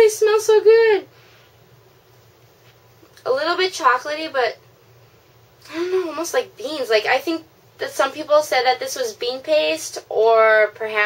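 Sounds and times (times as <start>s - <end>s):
faint low hum: 0.0s - 11.0s
soft hiss: 0.1s - 10.9s.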